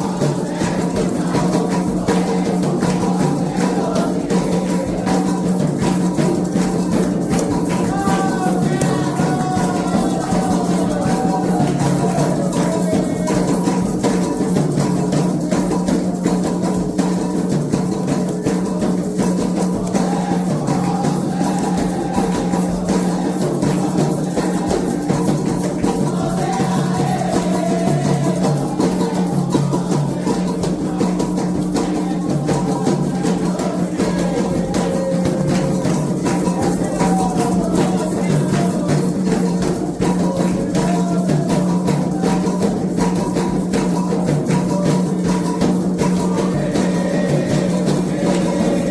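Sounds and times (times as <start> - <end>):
hand drums playing: 0.0 - 48.9
shaken rattle: 0.0 - 48.9
sung chant: 0.0 - 48.9.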